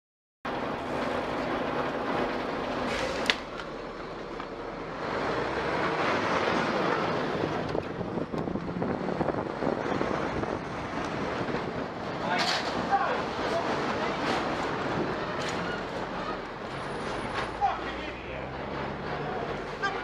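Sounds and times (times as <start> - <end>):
road traffic noise: 0.5 - 20.0.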